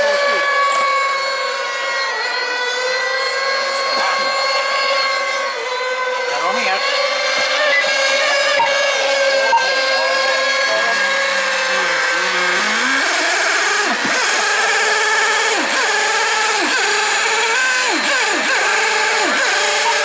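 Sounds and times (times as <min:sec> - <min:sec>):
rc boat engines whining: 0:00.0 - 0:20.0.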